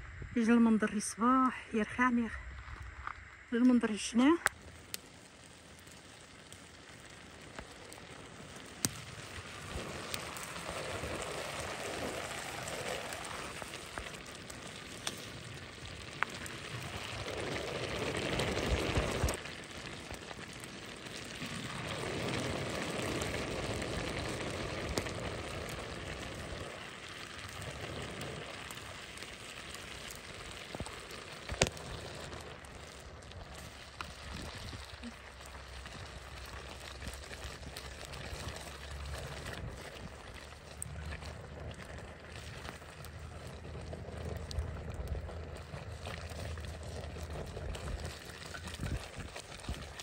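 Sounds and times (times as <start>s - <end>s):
wood fire crackling: 0.0s - 50.0s
fire pops: 2.4s - 50.0s.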